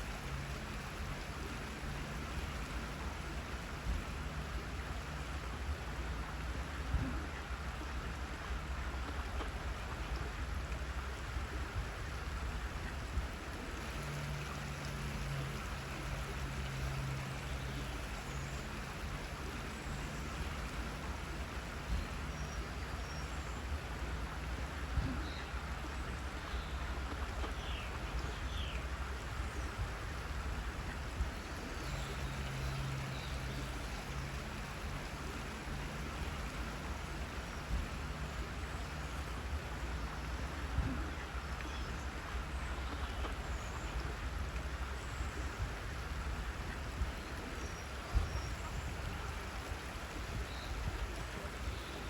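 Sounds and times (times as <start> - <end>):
waterfall rushing water: 0.0 - 9.0, 10.9 - 27.0, 27.6 - 42.8, 43.8 - 52.0.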